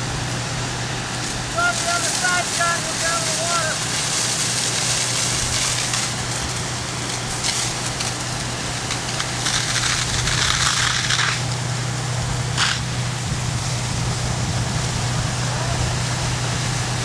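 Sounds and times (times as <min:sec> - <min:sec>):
pump engine humming: 0:00.0 - 0:17.0
water stream rushing hiss: 0:00.0 - 0:17.0.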